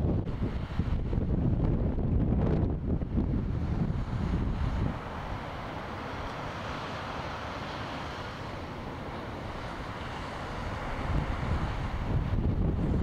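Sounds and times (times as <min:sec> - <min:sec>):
wind buffeting microphone: 0:00.0 - 0:06.8, 0:08.4 - 0:13.0
rushing wind and water: 0:00.0 - 0:13.0.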